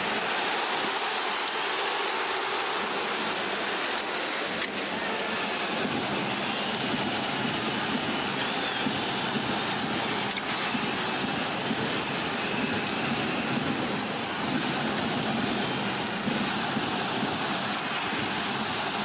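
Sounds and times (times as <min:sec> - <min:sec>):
arena crowd noise: 0:00.0 - 0:19.0.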